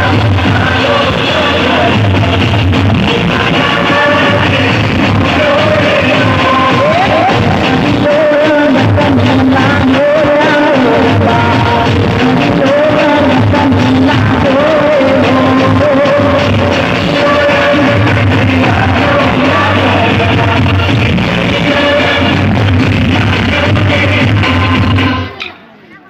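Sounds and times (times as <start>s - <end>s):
song with singing voice: 0.0s - 26.0s.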